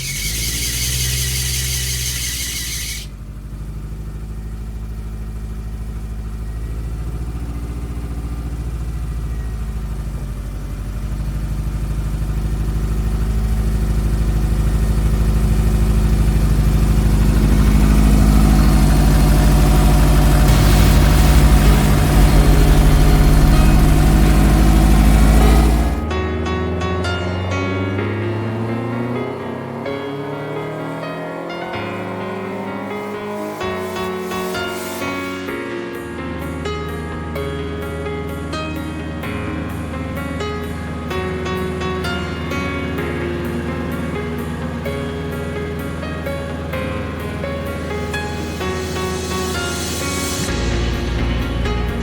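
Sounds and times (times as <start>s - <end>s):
car engine idling: 0.0s - 35.5s, 36.4s - 52.0s.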